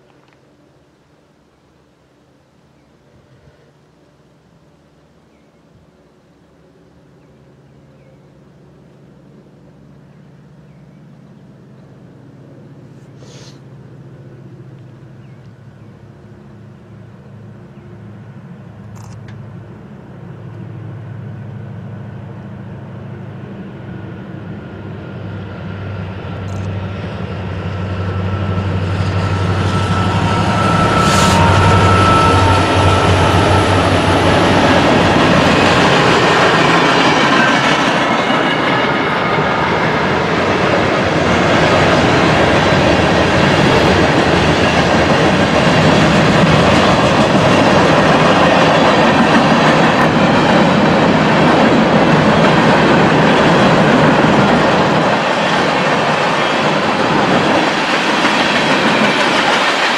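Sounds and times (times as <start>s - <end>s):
diesel locomotive engine drone: 0.0s - 59.9s
freight cars rumbling by: 10.0s - 59.9s.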